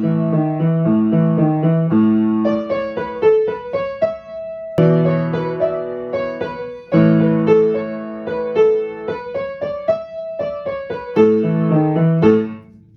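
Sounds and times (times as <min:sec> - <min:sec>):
piano playing: 0:00.0 - 0:12.9.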